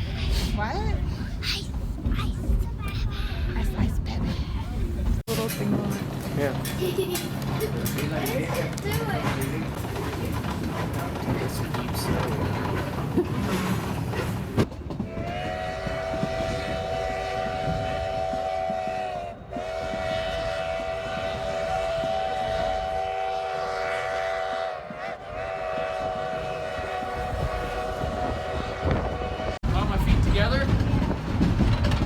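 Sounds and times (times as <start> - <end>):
moving train rumble: 0.0 - 32.0.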